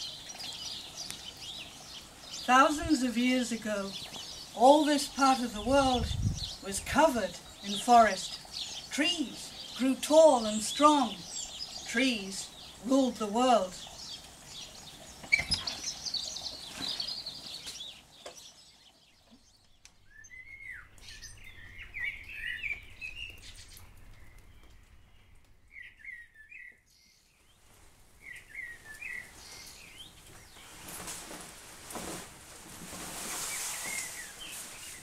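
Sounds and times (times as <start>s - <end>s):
songbirds chirping and warbling: 0.0s - 35.0s.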